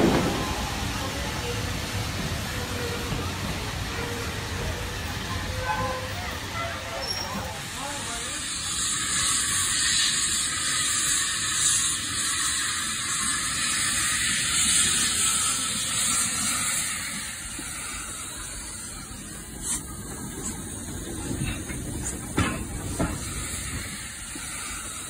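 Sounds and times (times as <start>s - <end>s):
steam hiss: 0.0s - 25.0s.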